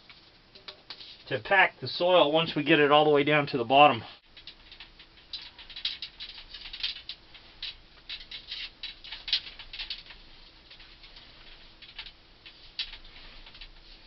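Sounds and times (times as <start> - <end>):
copper tubing clicks and scrapes: 0.0 - 1.7, 4.2 - 14.0.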